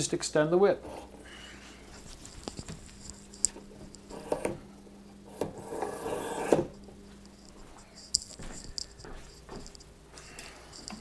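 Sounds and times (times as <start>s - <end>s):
antenna sections scraping: 0.8s - 11.0s.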